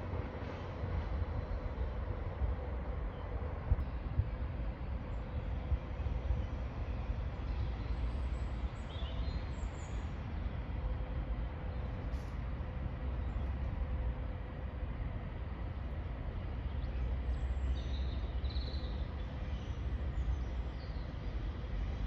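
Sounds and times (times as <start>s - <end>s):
train rumble approaching: 0.0s - 22.0s.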